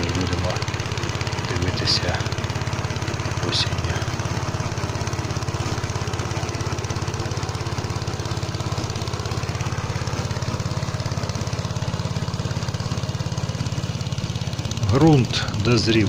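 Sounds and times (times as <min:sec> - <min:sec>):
rotary tiller milling soil: 0:00.0 - 0:16.0
tractor engine running: 0:00.0 - 0:16.0.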